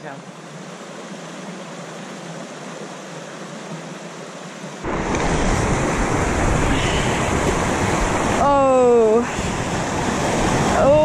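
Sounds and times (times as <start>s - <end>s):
stream rushing over rocks: 0.2s - 11.0s.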